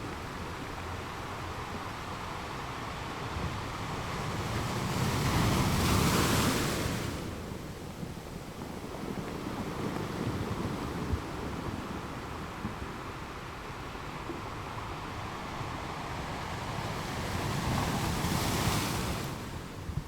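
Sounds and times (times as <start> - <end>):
ocean waves breaking on a beach: 0.0 - 20.0.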